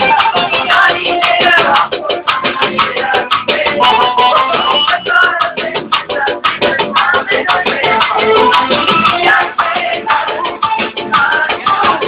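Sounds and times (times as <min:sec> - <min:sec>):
upbeat music with quick beat: 0:00.0 - 0:12.0.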